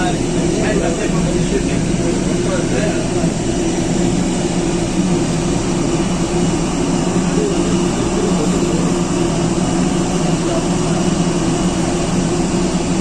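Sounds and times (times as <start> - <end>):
jet engines humming: 0.0 - 13.0.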